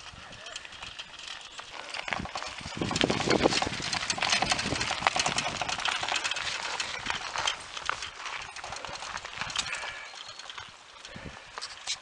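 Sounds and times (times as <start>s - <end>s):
tyres crunching over gravel: 0.0s - 12.0s
dog paws crunching on gravel: 0.1s - 12.0s.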